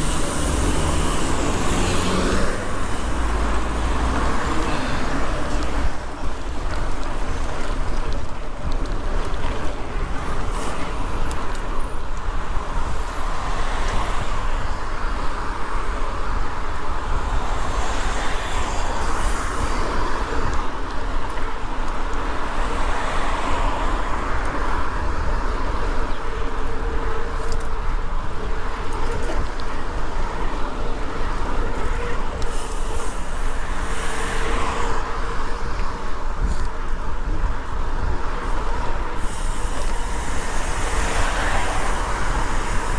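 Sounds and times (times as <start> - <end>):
road and tyre noise: 0.0 - 42.9
wind rumble on microphone: 0.0 - 42.9.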